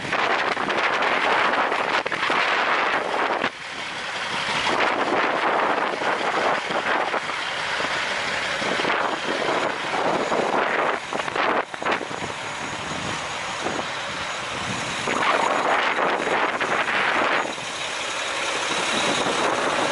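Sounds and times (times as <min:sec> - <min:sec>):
gusting wind on microphone: 0:00.0 - 0:19.9.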